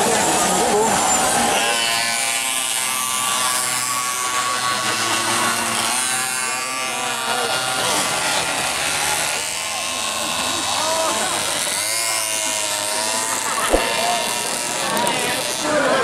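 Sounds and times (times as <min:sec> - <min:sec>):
mini motorbikes buzzing at high revs: 0:00.0 - 0:16.0.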